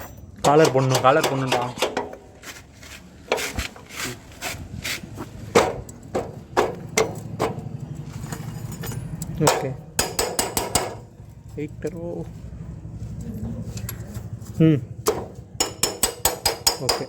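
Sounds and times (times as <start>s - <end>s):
metal knocking and scraping: 0.0s - 11.2s, 13.4s - 17.0s.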